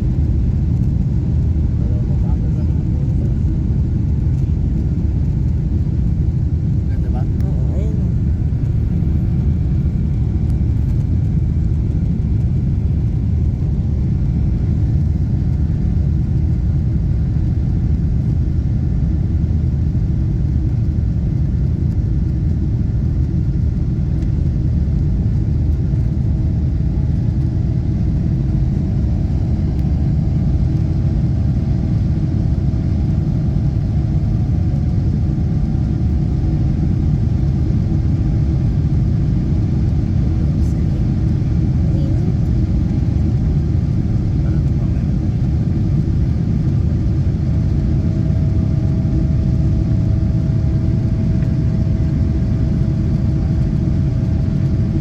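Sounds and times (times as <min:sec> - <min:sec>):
jet engine rumble in cabin: 0:00.0 - 0:55.0.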